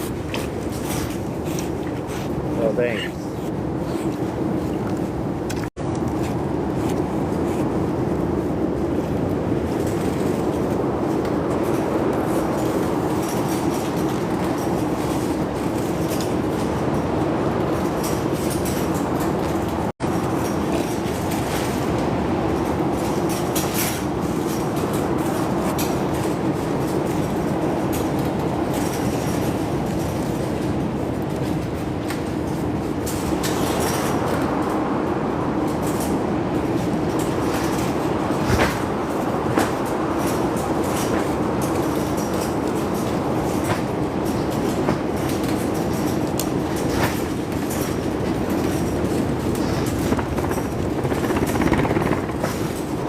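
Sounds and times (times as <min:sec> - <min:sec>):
strong wind roaring: 0:00.0 - 0:53.0.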